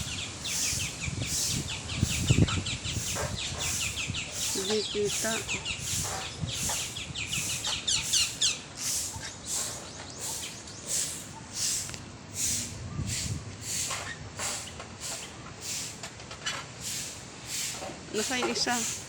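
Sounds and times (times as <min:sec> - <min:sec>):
birds chirping: 0:00.0 - 0:16.1, 0:16.8 - 0:19.0
high hissy bird call: 0:00.0 - 0:16.1, 0:16.8 - 0:19.0.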